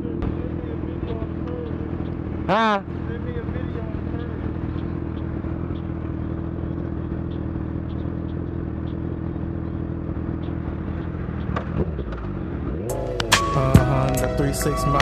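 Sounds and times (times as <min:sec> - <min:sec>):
motorcycle engines idling: 0:00.0 - 0:15.0.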